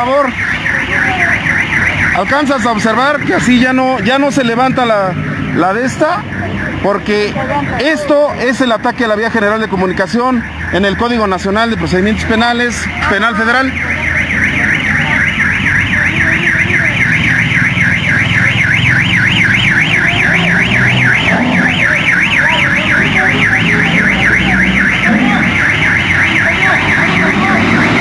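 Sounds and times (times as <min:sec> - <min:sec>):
low traffic rumble: 0:00.0 - 0:28.0
warbling electronic alarm siren: 0:00.0 - 0:28.0.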